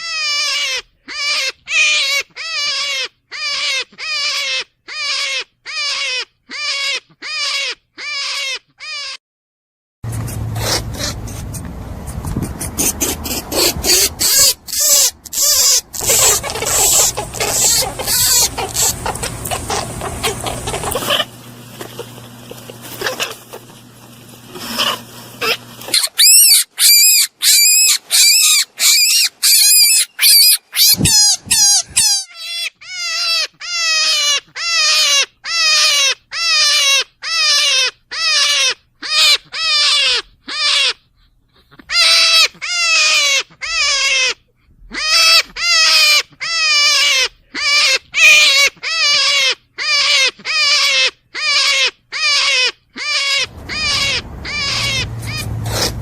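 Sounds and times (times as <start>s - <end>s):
animal calling: 0.0s - 9.2s, 10.1s - 56.0s.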